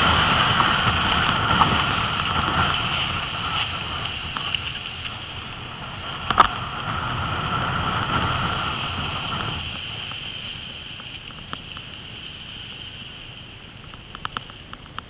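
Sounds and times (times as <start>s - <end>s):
wind and handling noise: 0.0s - 15.0s.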